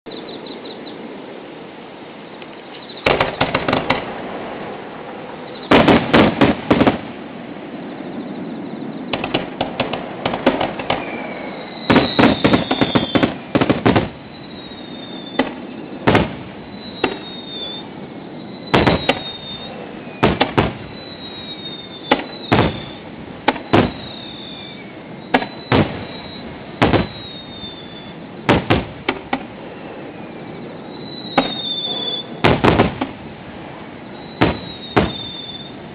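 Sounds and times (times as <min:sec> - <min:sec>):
fireworks whistling: 0:02.6 - 0:35.9
fireworks bangs: 0:02.8 - 0:07.4, 0:08.4 - 0:35.8
fireworks bursts: 0:02.9 - 0:35.9.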